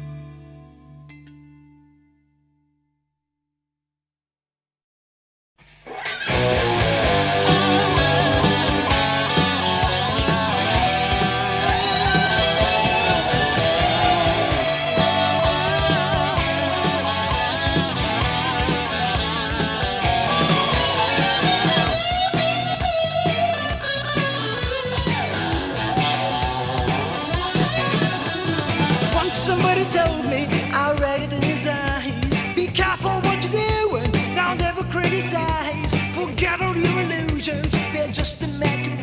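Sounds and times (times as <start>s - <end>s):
electric guitar: 0.0s - 2.3s, 5.7s - 39.0s
hard rock band playing: 5.9s - 39.0s.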